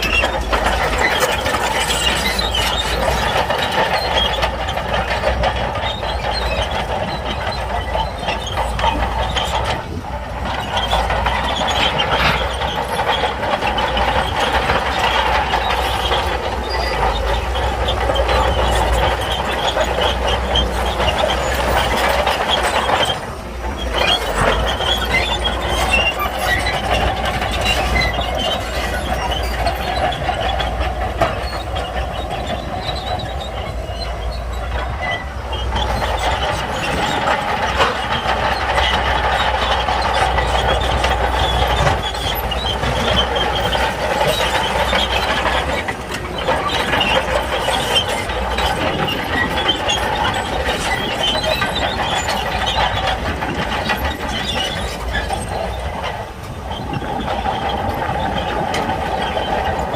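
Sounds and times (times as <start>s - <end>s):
diesel engine running under load: 0.0s - 59.9s
steel tracks clanking and squealing: 0.0s - 59.9s.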